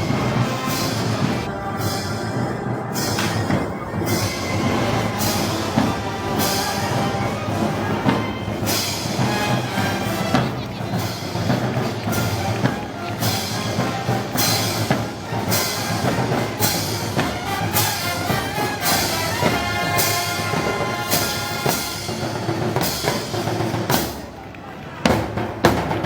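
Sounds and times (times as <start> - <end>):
sustained brass notes: 0.0 - 23.7
drums: 0.0 - 26.0.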